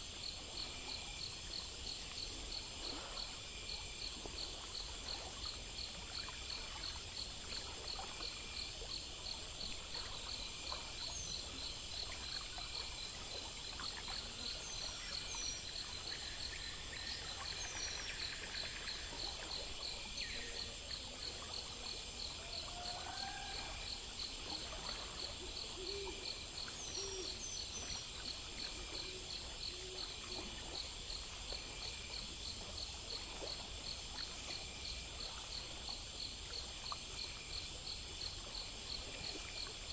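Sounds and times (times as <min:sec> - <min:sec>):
crickets and insects chirping: 0:00.0 - 0:39.9
high insect trill: 0:00.0 - 0:39.9.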